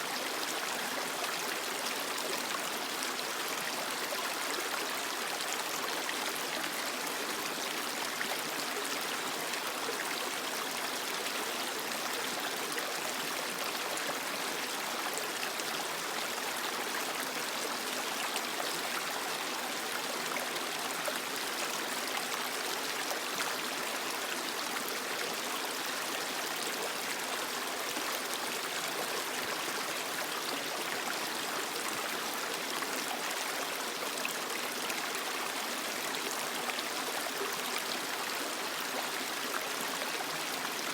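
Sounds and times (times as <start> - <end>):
creek water flowing over rocks: 0.0 - 40.9.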